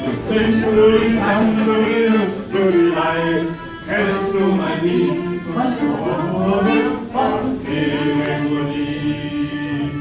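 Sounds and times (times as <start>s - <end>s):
group singing unaccompanied: 0.0s - 10.0s.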